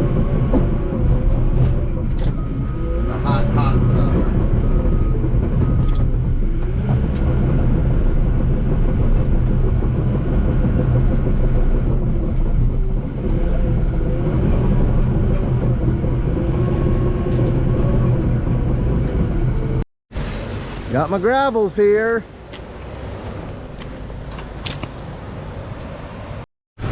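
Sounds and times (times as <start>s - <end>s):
bulldozer diesel engine droning: 0.0s - 24.5s.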